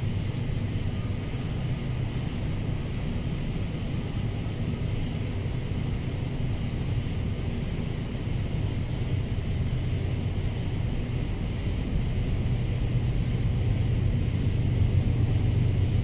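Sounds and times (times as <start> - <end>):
cicadas droning: 0.0 - 16.0
steady low rumble: 0.0 - 16.0.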